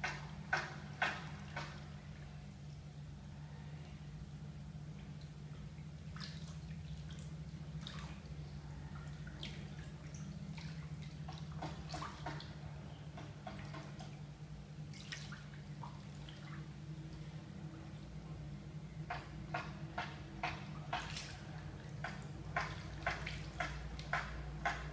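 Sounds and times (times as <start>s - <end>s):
water dripping and splashing: 0.0s - 2.4s, 4.9s - 18.4s, 19.0s - 24.9s.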